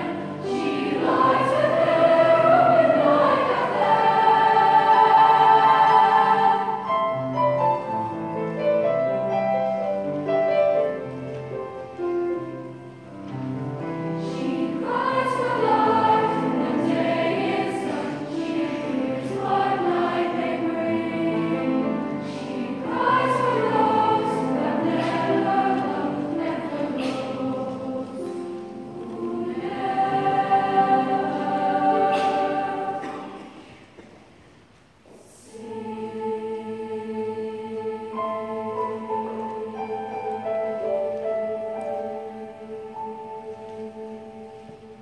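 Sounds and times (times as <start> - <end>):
choir singing in parts: 0.0 - 8.9, 13.8 - 34.0, 35.1 - 45.0.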